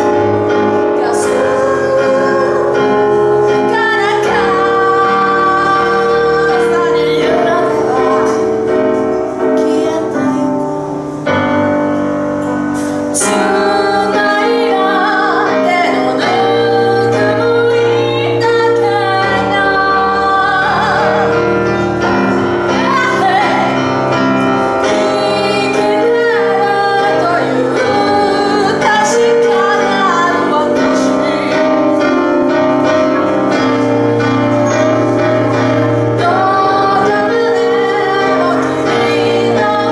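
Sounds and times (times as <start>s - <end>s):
woman singing: 0.0s - 11.7s, 13.0s - 39.9s
piano chords: 0.0s - 39.9s.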